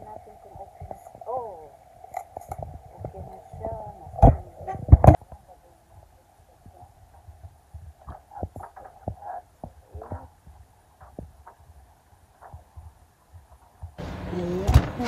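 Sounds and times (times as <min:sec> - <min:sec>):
low fluttering handling noise: 0:00.0 - 0:15.0.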